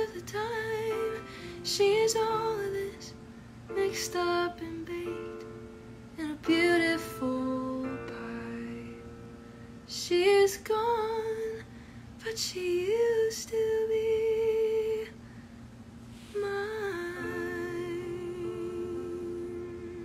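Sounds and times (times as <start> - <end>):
woman singing: 0.0 - 5.6, 6.2 - 9.2, 9.9 - 15.2, 16.2 - 20.0.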